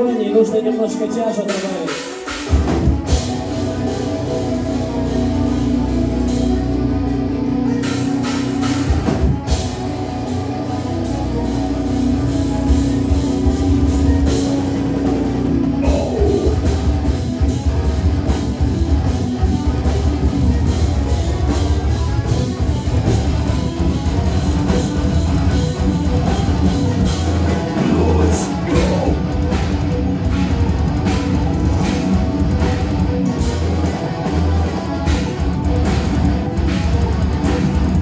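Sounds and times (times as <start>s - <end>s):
rock band playing live: 0.0s - 38.0s
drum kit beat: 1.5s - 6.9s, 7.8s - 38.0s.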